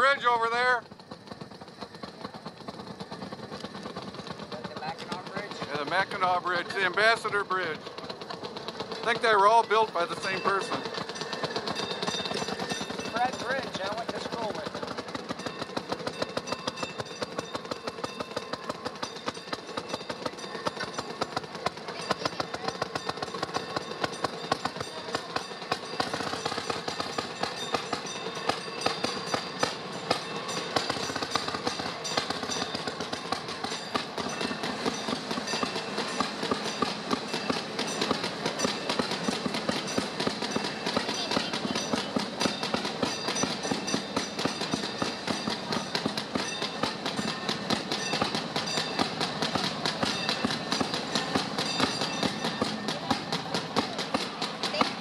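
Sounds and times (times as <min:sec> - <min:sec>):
small engine running: 0:00.0 - 0:55.0
wheels clacking over rail joints: 0:00.0 - 0:55.0.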